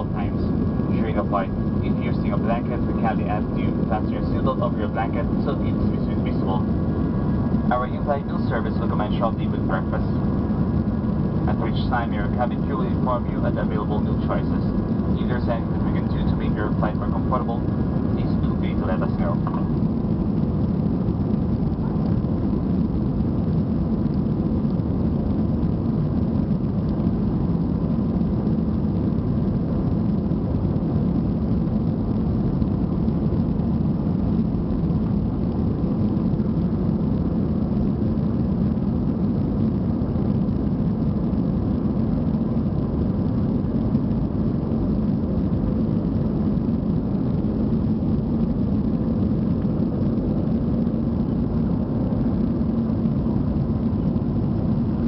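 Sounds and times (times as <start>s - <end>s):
airplane cabin engine drone: 0.0s - 55.0s
faint steady whine: 0.0s - 55.0s.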